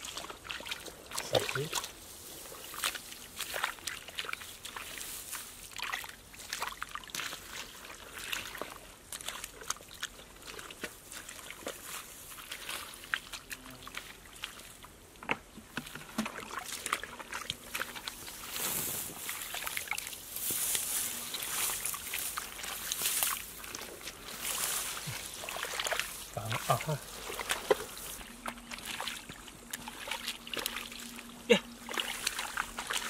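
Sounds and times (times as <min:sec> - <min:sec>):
hands squelching through wet mud: 0:00.0 - 0:33.0.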